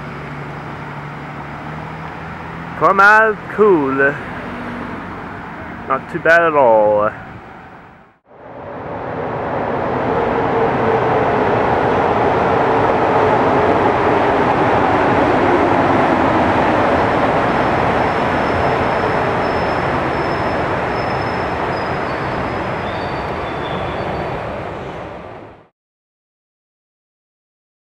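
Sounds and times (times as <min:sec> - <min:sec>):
large vehicle passing: 0:00.0 - 0:25.7.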